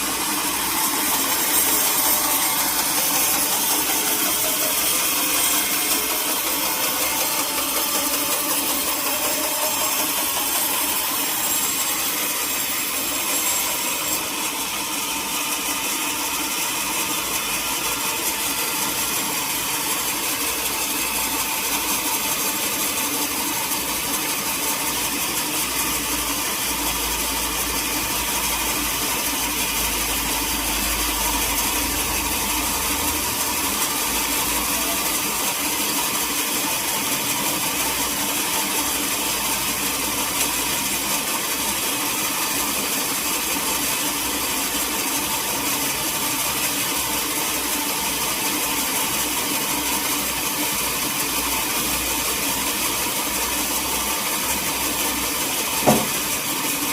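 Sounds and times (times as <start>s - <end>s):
sawmill machinery humming: 0.0s - 56.9s.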